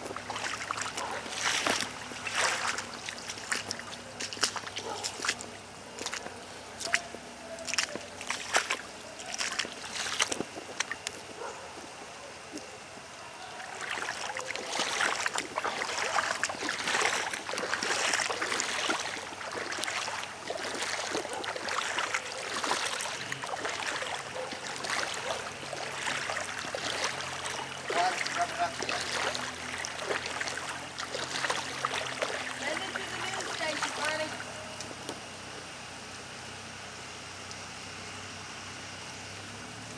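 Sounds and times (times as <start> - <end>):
water splashing and sloshing: 0.0 - 35.3.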